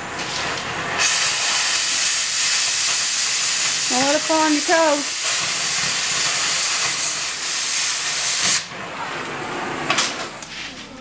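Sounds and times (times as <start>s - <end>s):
cutting torch hissing: 0.0s - 8.9s.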